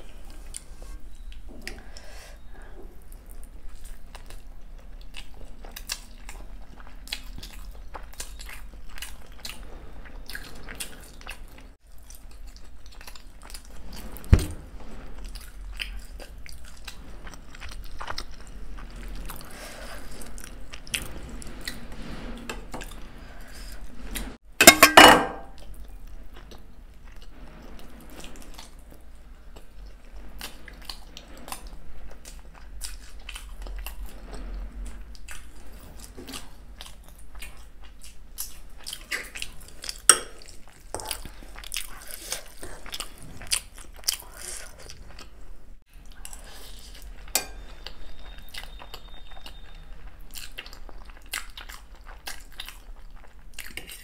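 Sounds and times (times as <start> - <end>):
chewing and crunching: 3.1 - 14.3, 14.9 - 21.8, 25.5 - 54.0.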